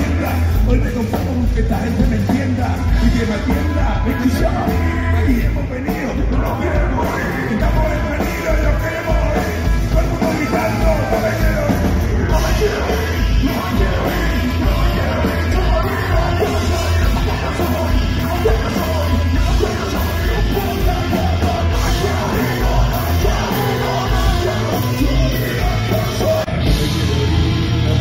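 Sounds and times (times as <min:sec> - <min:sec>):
bass guitar: 0:00.0 - 0:28.0
drums: 0:00.0 - 0:28.0
electric guitars: 0:00.0 - 0:28.0
shouted vocals: 0:02.5 - 0:28.0.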